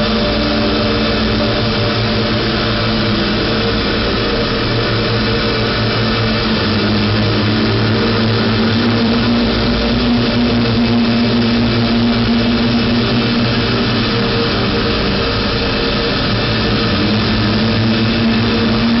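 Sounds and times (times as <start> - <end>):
dense hiss drone: 0.0 - 19.0
held low electronic tones: 0.0 - 19.0.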